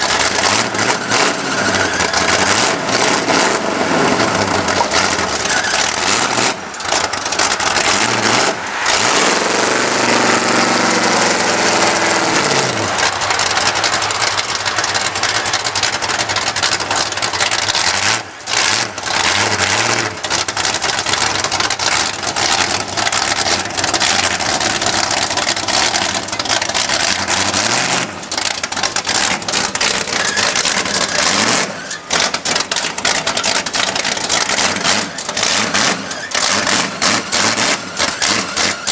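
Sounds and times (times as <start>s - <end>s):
steady rushing noise: 0.0s - 35.0s
truck engine revving: 0.0s - 38.9s.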